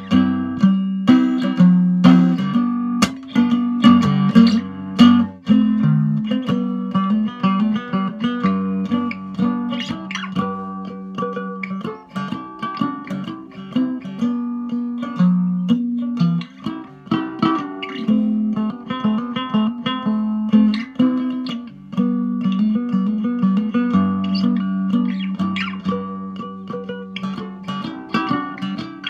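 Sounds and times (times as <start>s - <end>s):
picked guitar melody with drone: 0.0s - 29.0s.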